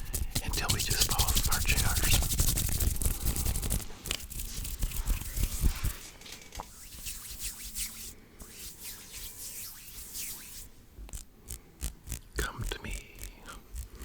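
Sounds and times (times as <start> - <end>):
hands rubbing together: 0.0 - 6.0, 6.7 - 14.0.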